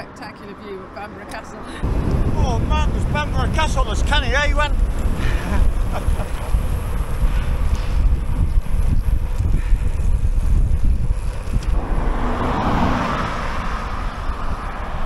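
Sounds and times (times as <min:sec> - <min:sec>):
wind buffeting microphone: 0:01.2 - 0:15.0
car overtaking: 0:01.8 - 0:15.0.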